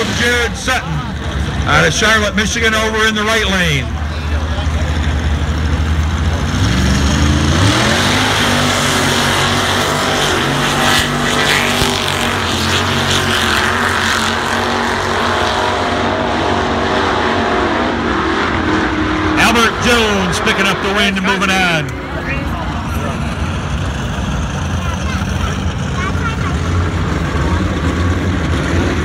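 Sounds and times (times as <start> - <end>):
truck engines revving hard: 0.0 - 29.0.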